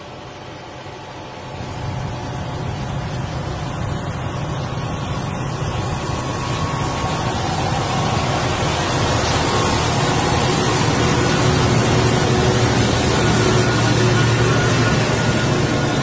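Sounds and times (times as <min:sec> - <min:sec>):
road noise: 0:00.0 - 0:16.0
truck diesel engines droning: 0:00.0 - 0:16.0.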